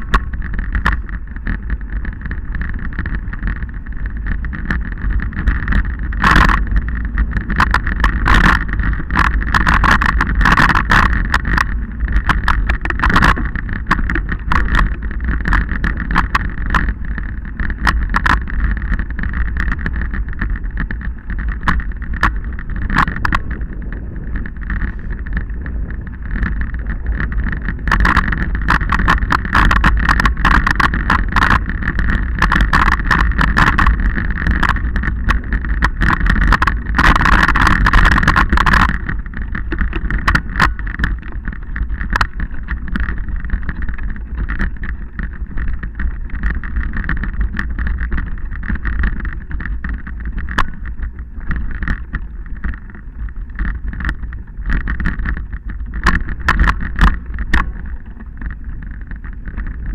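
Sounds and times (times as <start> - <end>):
low rumble: 0.0 - 59.9
wheels rattling over stones: 0.0 - 59.9
wind rushing over microphone: 0.0 - 59.9.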